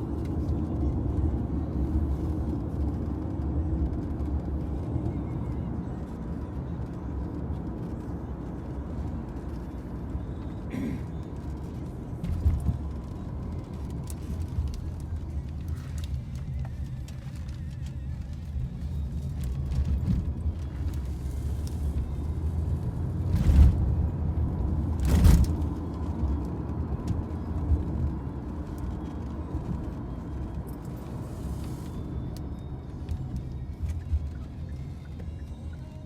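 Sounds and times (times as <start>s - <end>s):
car engine and road rumble: 0.0s - 36.0s.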